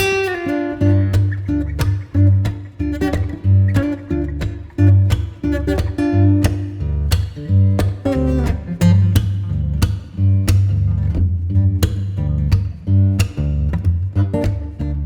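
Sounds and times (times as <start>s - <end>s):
song with plucked guitar and beat: 0.0s - 15.0s.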